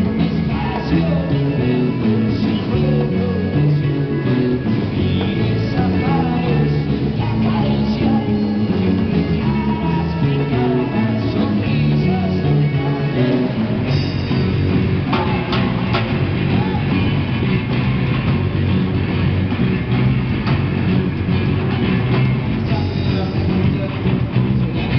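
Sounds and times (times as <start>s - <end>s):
drum kit: 0.0s - 24.9s
electric guitars: 0.0s - 24.9s
live rock band playing: 0.0s - 24.9s.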